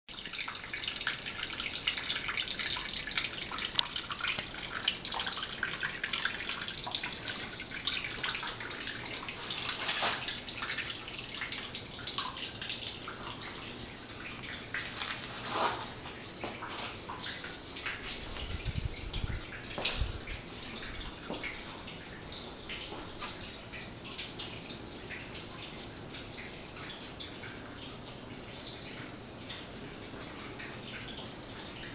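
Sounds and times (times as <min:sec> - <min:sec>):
water trickling down rock: 0:00.1 - 0:31.9.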